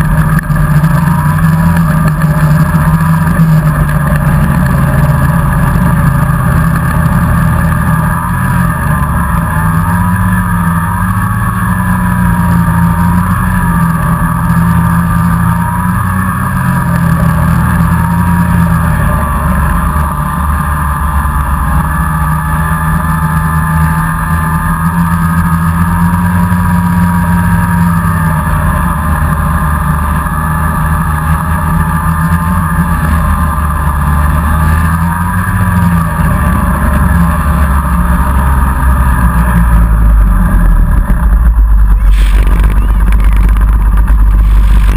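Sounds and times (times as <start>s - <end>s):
snowmobile engine running: 0.0s - 44.9s.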